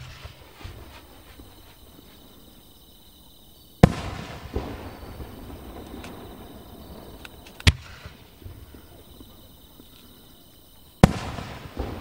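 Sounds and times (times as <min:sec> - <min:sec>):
faint firework pops: 0:00.0 - 0:02.3, 0:03.8 - 0:10.2, 0:11.0 - 0:12.0
firework booms: 0:00.0 - 0:02.7, 0:03.7 - 0:12.0.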